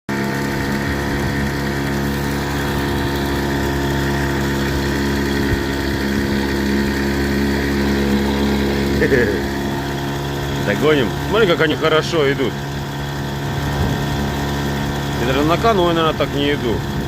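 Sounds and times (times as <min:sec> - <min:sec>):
engine humming steadily: 0:00.1 - 0:17.0.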